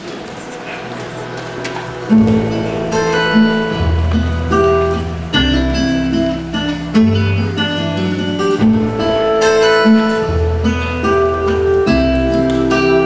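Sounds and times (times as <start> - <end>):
acoustic guitar song: 0.0 - 13.0
low held bass notes: 0.8 - 13.0.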